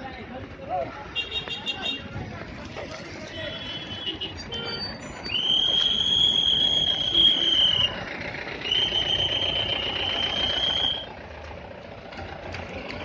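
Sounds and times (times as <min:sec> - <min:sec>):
vehicle engines running: 0:00.0 - 0:13.0
truck moving past: 0:01.9 - 0:13.0.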